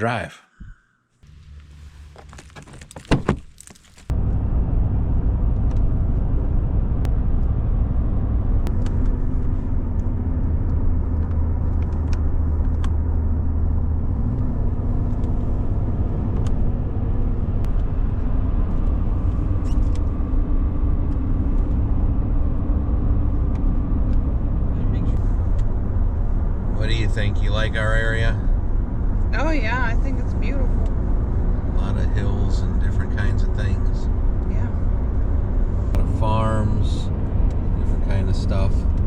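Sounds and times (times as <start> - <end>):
car engine and tyres rumbling: 0.6 - 39.0.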